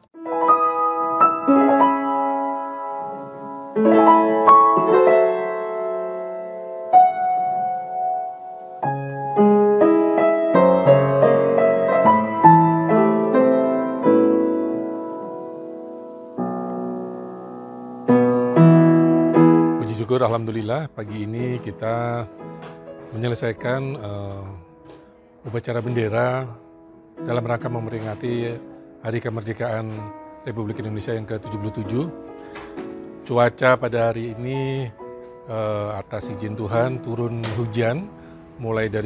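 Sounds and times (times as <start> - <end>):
slow piano music: 0.0 - 39.0.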